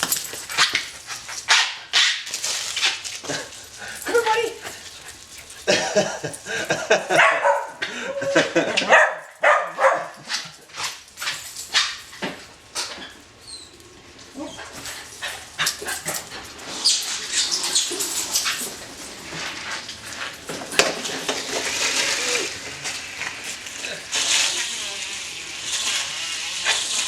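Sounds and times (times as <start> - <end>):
dogs barking and yelping: 0.0 - 24.2.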